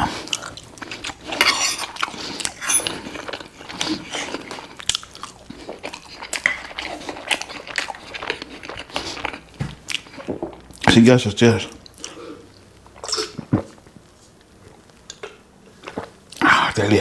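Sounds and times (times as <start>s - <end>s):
person chewing food: 0.0s - 10.9s, 11.7s - 16.8s.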